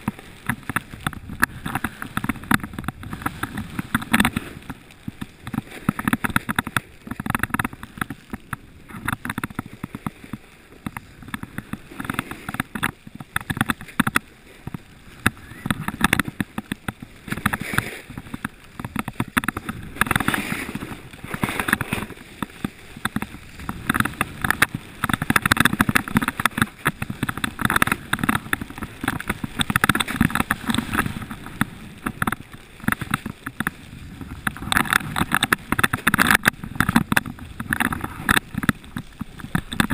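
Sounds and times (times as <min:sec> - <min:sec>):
snowboard scraping over snow: 0:00.0 - 0:39.9.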